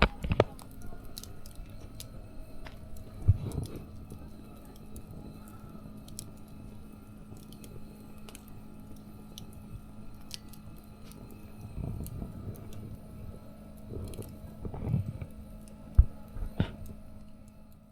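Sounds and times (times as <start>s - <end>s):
low steady hum: 0.0s - 17.9s
wood fire crackling: 0.0s - 17.9s.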